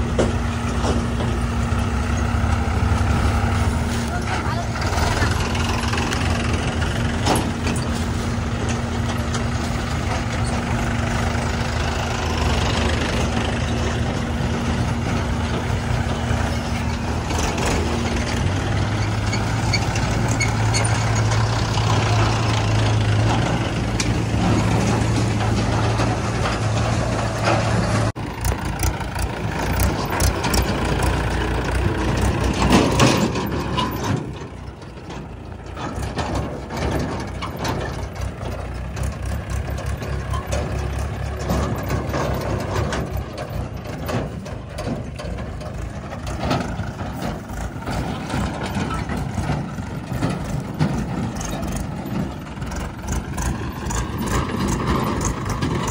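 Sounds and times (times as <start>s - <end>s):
tractor diesel engines: 0.0s - 55.9s.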